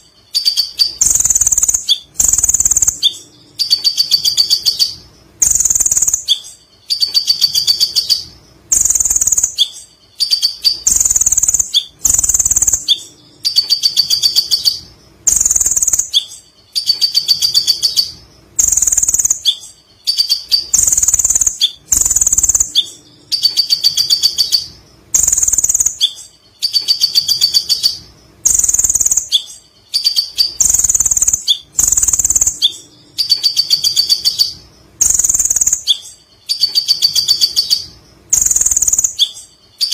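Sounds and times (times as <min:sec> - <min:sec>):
sunbird chattering trills: 0:00.3 - 0:39.9.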